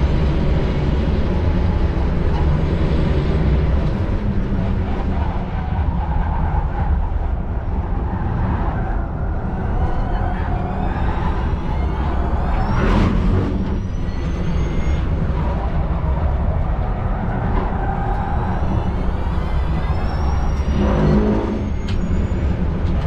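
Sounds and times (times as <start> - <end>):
tyre and wind rumble: 0.0 - 23.0.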